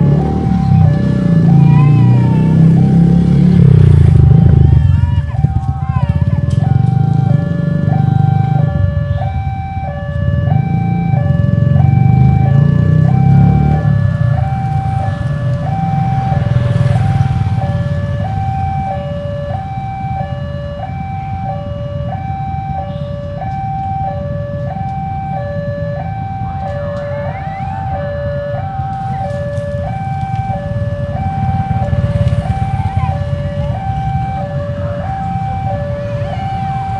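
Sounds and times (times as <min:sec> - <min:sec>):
level crossing two-tone alarm: 0:00.0 - 0:36.9
vehicle engines rumbling: 0:00.0 - 0:36.9.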